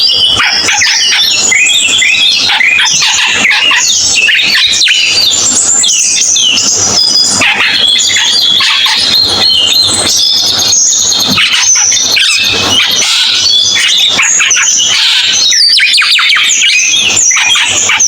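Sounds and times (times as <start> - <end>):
songbird chattering and whistling: 0.0 - 18.0.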